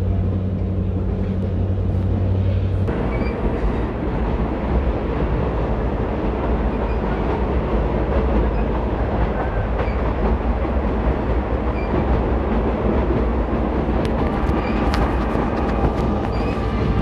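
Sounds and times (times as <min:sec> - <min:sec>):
train rumble and rattle: 0:00.0 - 0:17.0.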